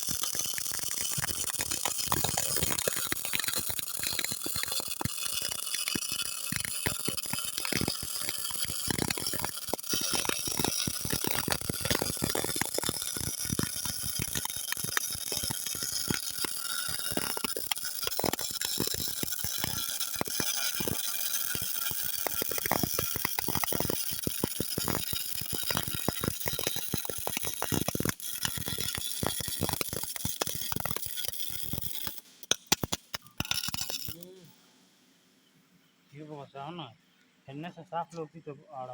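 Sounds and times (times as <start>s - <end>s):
welding arc crackling: 0.0s - 34.5s.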